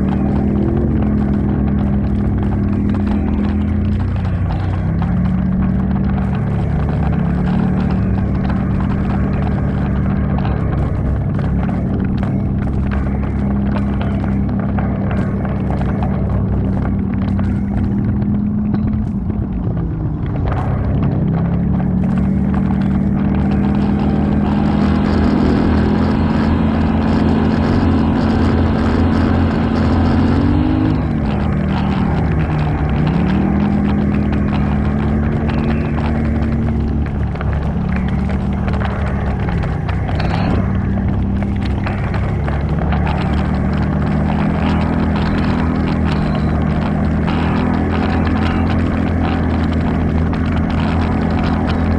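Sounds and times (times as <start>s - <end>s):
atv engine running: 0.0s - 51.9s.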